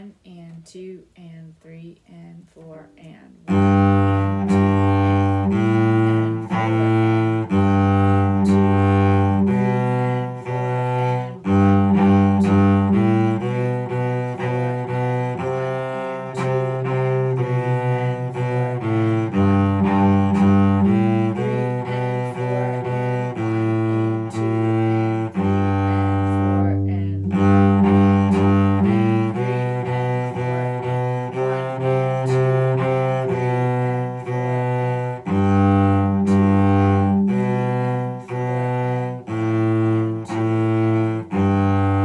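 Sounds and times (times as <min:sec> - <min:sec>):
solo cello melody: 0:01.2 - 0:42.0.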